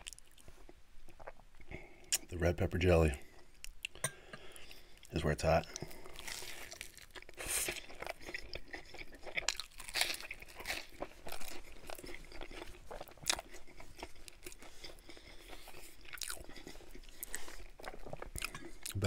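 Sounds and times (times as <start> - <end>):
crunchy sandwich being chewed: 0.0 - 2.3, 4.6 - 19.0.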